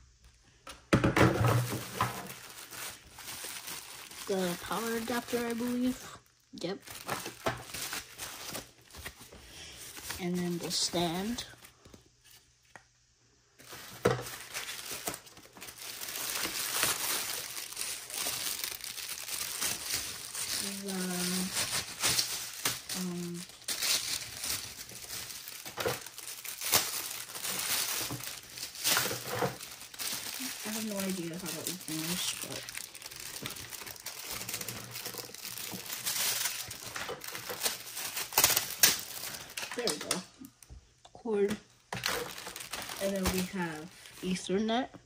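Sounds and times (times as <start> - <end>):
packaging crinkling: 1.4 - 12.4, 13.6 - 40.6, 41.8 - 44.4.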